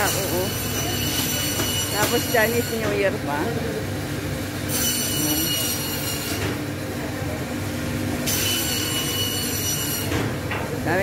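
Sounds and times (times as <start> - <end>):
market hall hum: 0.0 - 11.0.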